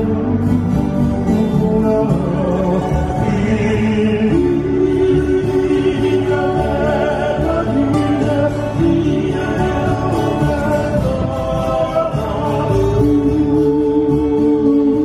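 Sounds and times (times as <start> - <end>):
live trio music: 0.0 - 15.0
person singing: 0.0 - 15.0.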